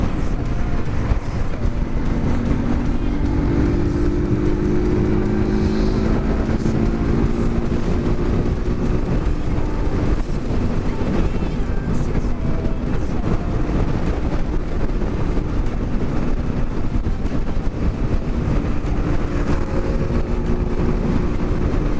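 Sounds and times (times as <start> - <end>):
motorcycle engine droning: 0.0 - 21.9
wind buffeting on microphone: 0.0 - 21.9.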